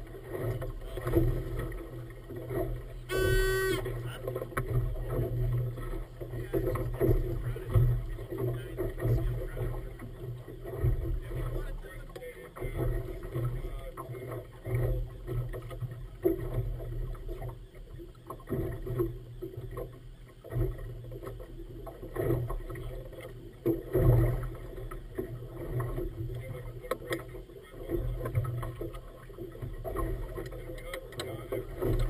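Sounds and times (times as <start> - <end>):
waves slapping against boat hull: 0.0 - 32.0.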